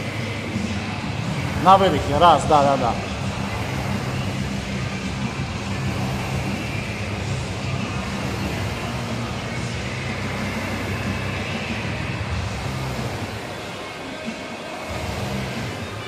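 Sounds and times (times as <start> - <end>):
rowing machine fan whirring: 0.0 - 16.0.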